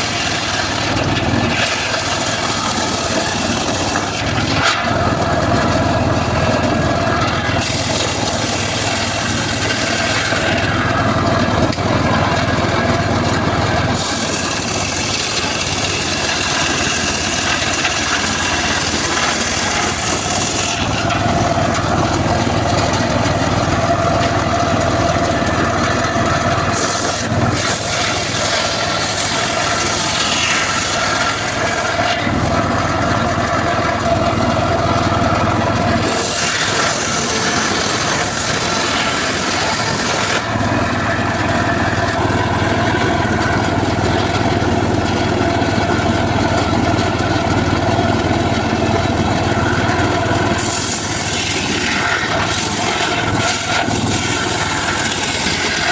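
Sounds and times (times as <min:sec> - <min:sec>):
circular sawmill running: 0:00.0 - 0:55.9
saw blade cutting wood: 0:00.0 - 0:55.9.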